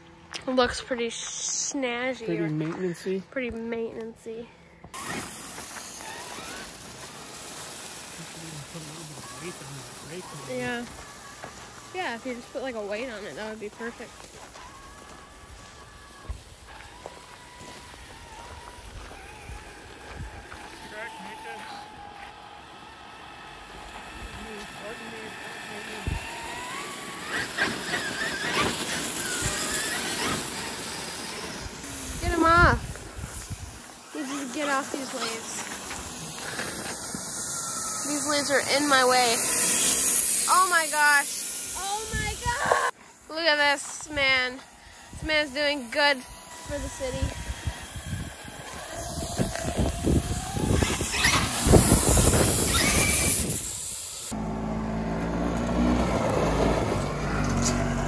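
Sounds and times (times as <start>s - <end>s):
toy truck electric motor whining: 4.9s - 54.4s
rake scraping through leaves: 5.0s - 22.4s, 23.2s - 54.2s.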